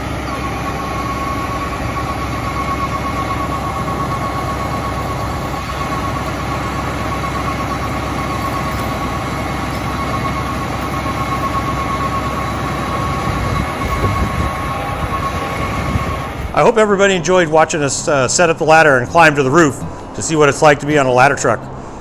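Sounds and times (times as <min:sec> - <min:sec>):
thin high whine: 0:00.0 - 0:21.8
fire truck engine idling: 0:00.0 - 0:22.0.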